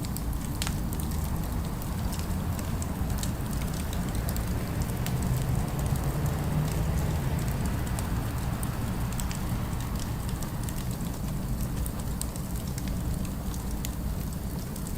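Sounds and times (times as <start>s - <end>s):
fire crackling and popping: 0.0s - 14.9s
low city rumble: 0.0s - 14.9s.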